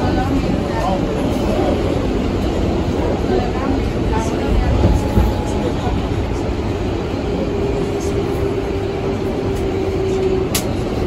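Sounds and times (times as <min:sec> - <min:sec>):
subway car running noise: 0:00.0 - 0:11.0
train whine: 0:00.0 - 0:11.0.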